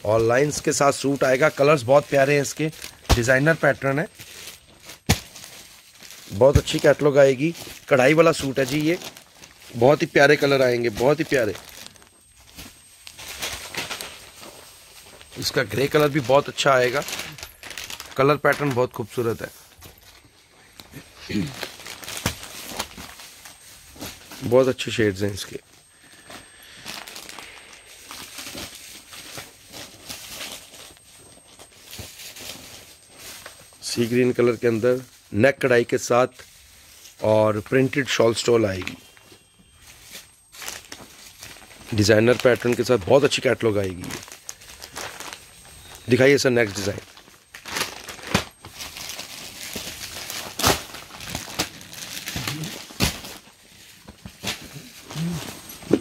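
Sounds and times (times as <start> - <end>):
cloth and wrapping rustling: 0.0 - 56.0.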